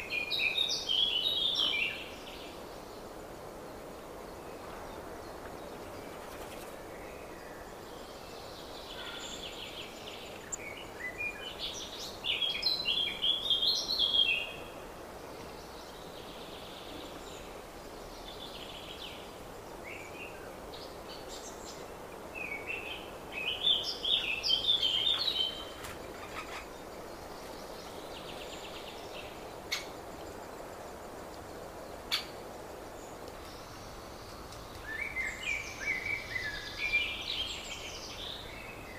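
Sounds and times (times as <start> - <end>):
bird singing loud song phrase: 0.0 - 3.1, 3.7 - 38.9
fainter songs of other birds: 0.0 - 38.9.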